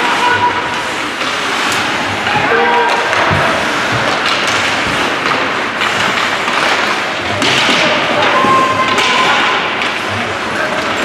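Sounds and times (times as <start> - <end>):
loud noisy din: 0.0 - 11.0.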